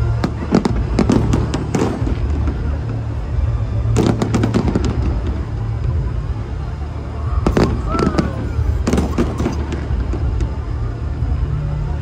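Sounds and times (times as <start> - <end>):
fireworks bangs and crackles: 0.0 - 12.0
steady low rumble: 0.0 - 12.0.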